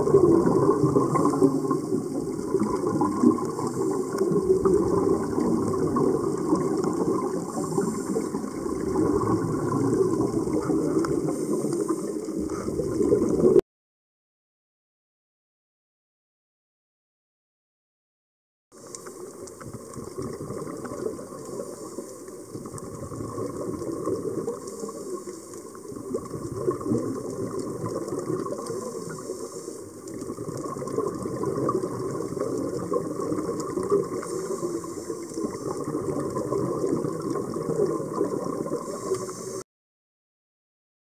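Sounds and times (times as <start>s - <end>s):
underwater bubbling and crackling: 0.0s - 13.6s, 18.7s - 39.6s.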